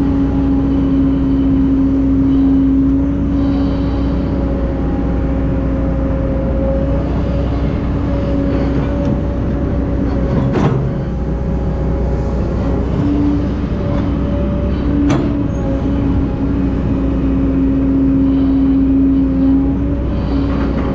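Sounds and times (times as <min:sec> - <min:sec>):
excavator diesel engine running: 0:00.0 - 0:20.9
steady whine: 0:00.0 - 0:20.9.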